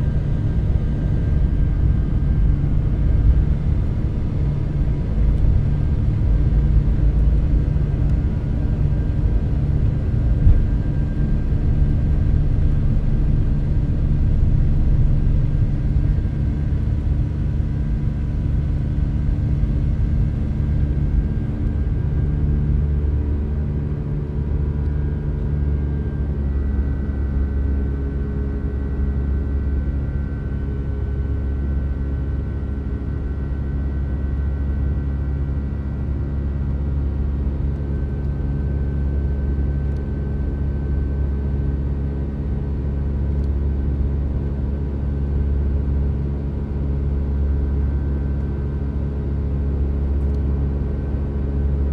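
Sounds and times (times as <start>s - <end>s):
jet engine rumble in cabin: 0.0s - 51.9s.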